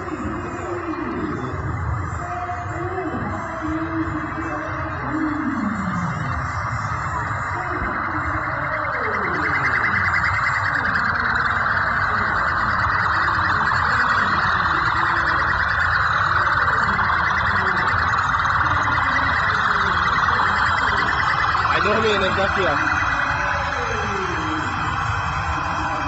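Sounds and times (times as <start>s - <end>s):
police sirens warbling: 0.0s - 26.0s.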